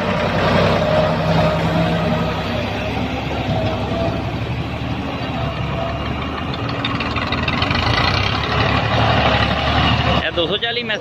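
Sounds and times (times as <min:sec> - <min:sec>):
excavator engine running: 0:00.0 - 0:11.0
tractor engine running: 0:00.0 - 0:11.0.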